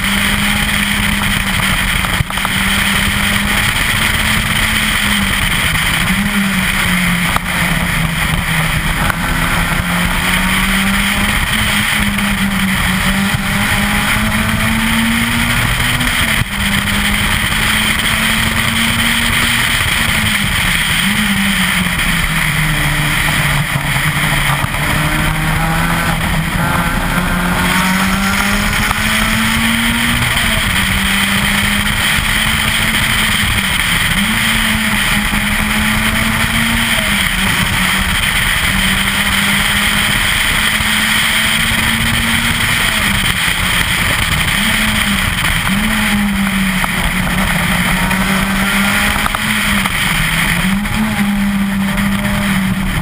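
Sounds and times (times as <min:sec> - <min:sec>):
rally car engine revving: 0:00.0 - 0:53.0
wind and road noise: 0:00.0 - 0:53.0.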